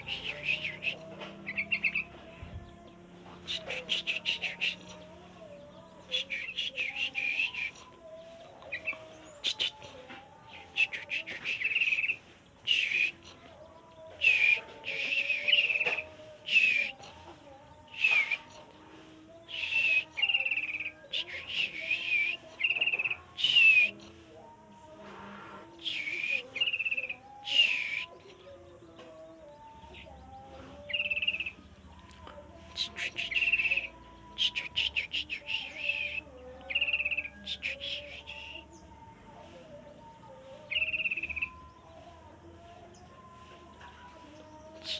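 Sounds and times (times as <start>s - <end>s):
bulbul warbling song: 0.0s - 25.0s, 25.7s - 44.9s.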